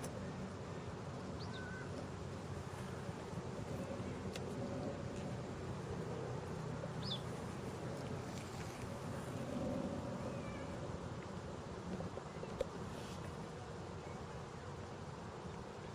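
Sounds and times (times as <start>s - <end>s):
outdoor background noise: 0.0s - 15.9s.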